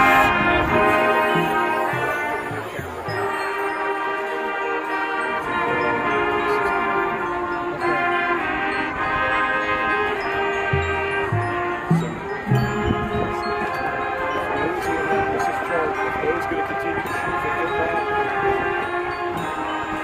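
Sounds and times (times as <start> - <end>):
band playing held chords: 0.0 - 20.0
ringing mallet percussion: 0.0 - 20.0.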